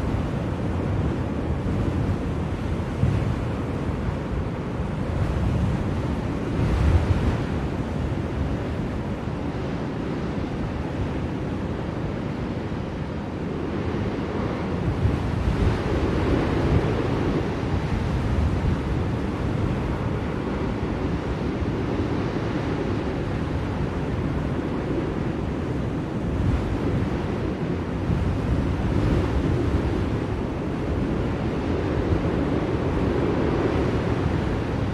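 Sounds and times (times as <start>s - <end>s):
blizzard wind rushing: 0.0s - 34.9s.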